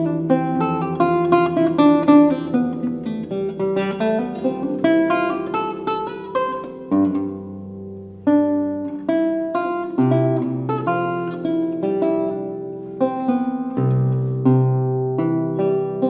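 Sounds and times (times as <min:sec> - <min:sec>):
solo lute playing: 0:00.0 - 0:16.0.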